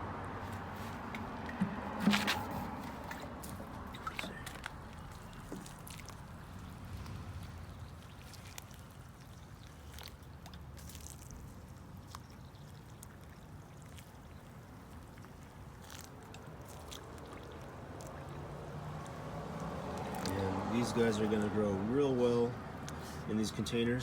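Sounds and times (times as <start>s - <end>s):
water trickling onto soil: 0.4s - 23.9s.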